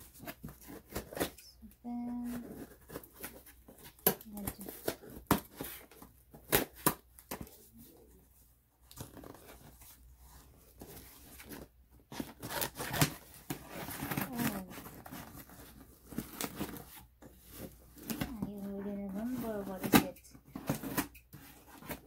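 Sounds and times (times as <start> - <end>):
cardboard tearing and rustling: 0.0 - 8.0, 8.8 - 22.0.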